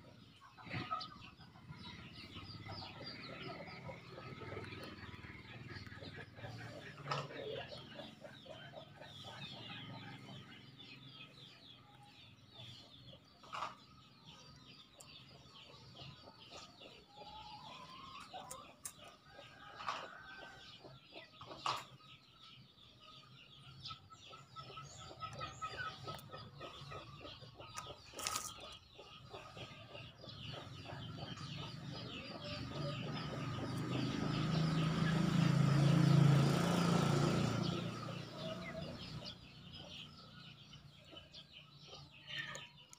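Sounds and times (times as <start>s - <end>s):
chickens clucking and calling: 0.0s - 42.9s.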